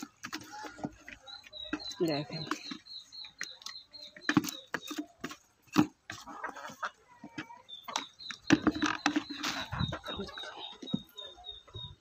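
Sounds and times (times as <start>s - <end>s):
chickens clucking softly: 0.0s - 12.0s
chickens pecking taps: 0.0s - 12.0s.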